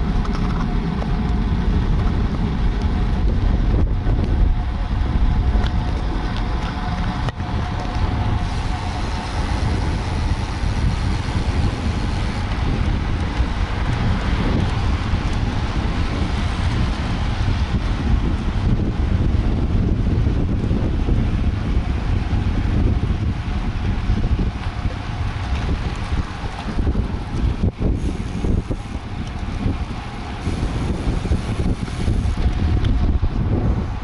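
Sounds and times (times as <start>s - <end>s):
tyre and road noise: 0.0s - 34.0s
wind rushing over microphone: 0.0s - 34.0s.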